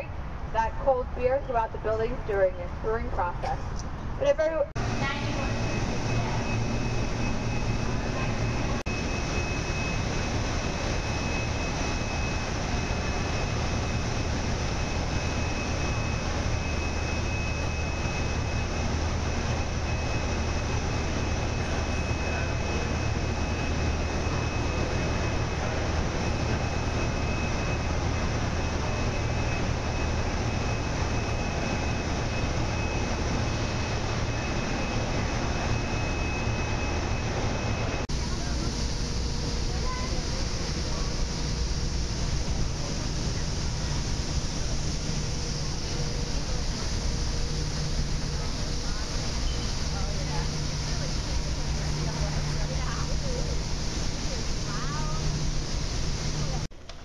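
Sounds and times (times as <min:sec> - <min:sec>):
machinery rushing noise: 0:00.0 - 0:56.8
low hum: 0:00.0 - 0:57.0
thin high whine: 0:00.0 - 0:57.0.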